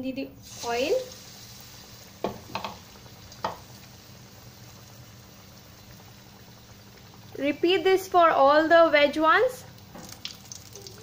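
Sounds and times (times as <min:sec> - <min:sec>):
food deep-frying in hot oil: 0:00.4 - 0:11.0
sharp oil crackles: 0:00.4 - 0:11.0.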